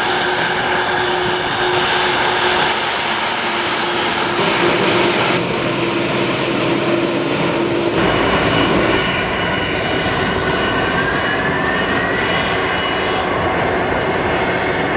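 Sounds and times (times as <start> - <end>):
jet engines roaring: 0.0 - 14.9
rising engine whine: 0.0 - 14.9.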